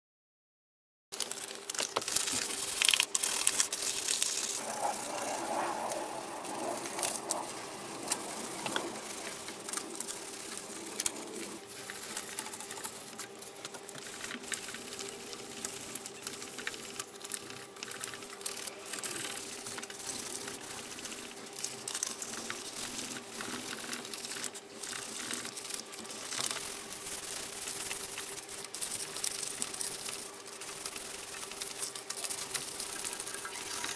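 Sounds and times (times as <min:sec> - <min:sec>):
paper crinkling: 0:01.1 - 0:33.9
faint hum: 0:01.2 - 0:33.9
hand rubbing plastic model: 0:02.2 - 0:33.9.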